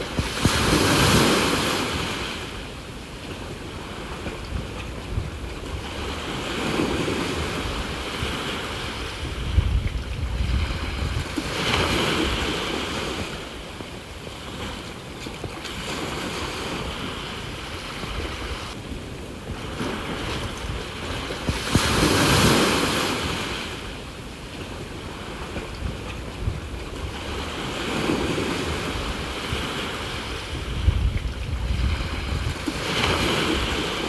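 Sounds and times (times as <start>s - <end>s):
sea waves washing onto shore: 0.0s - 34.0s.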